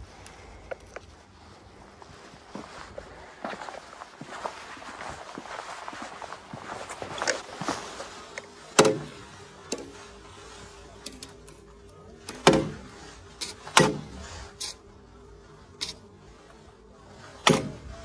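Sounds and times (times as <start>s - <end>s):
shuffling footsteps: 0.0s - 18.0s.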